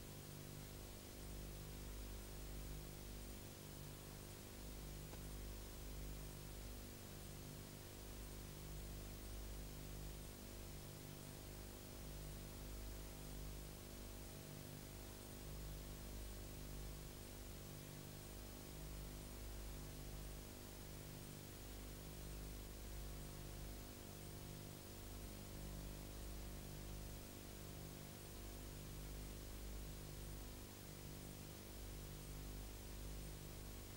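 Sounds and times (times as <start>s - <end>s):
pulsing low hum with hiss: 0.0s - 33.9s.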